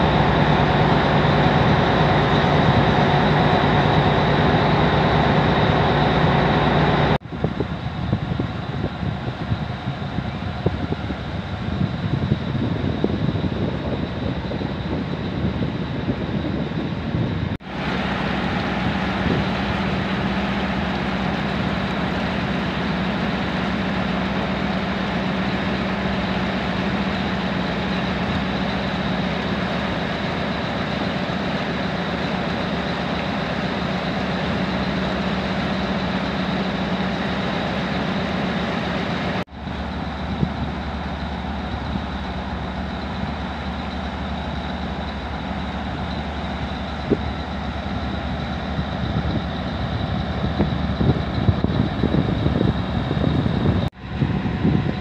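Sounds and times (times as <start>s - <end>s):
boat diesel engines droning: 0.0s - 55.0s.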